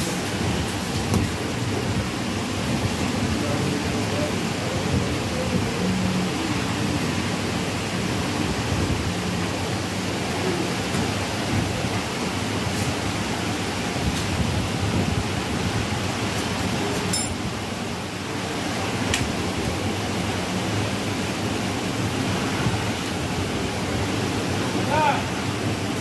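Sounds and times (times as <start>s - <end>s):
hiss-like background rush: 0.0s - 26.0s.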